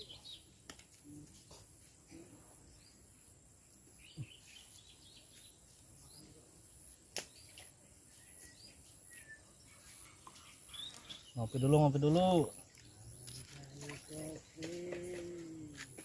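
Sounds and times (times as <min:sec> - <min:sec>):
faint bird chirps: 0:00.0 - 0:01.3, 0:02.1 - 0:15.8.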